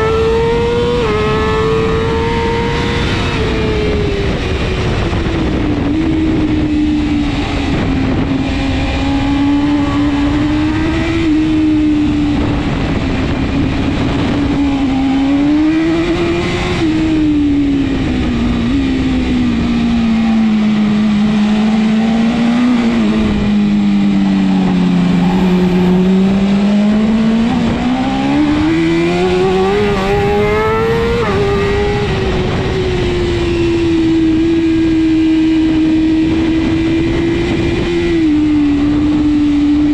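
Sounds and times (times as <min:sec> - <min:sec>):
motorcycle engine at race pace: 0:00.0 - 0:39.9.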